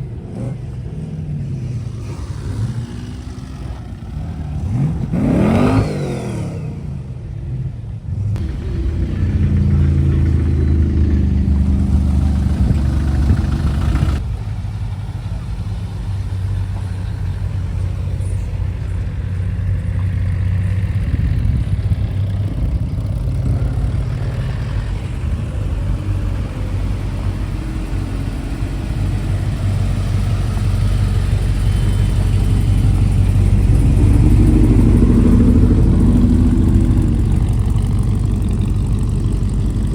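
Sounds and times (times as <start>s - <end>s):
vehicle engine revving and running: 0.0s - 39.9s.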